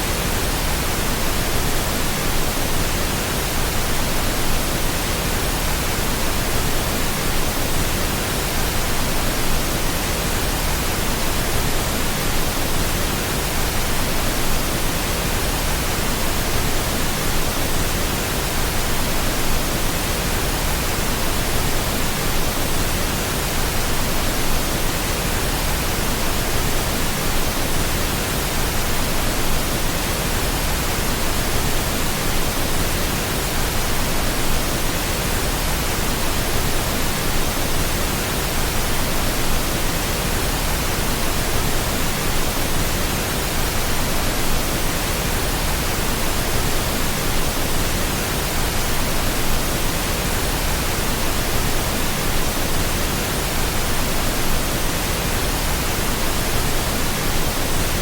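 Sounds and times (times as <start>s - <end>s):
steady pink noise hiss: 0.0s - 58.0s.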